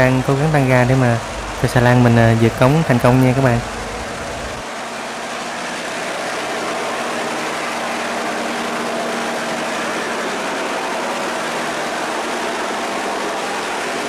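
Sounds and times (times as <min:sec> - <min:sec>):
diesel engine running hard: 0:00.0 - 0:14.0.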